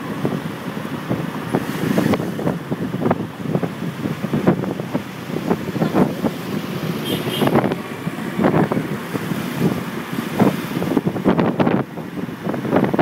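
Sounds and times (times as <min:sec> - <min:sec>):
road noise: 0:00.0 - 0:13.0
vehicle engine: 0:00.0 - 0:13.0
wind buffeting microphone: 0:00.0 - 0:13.0.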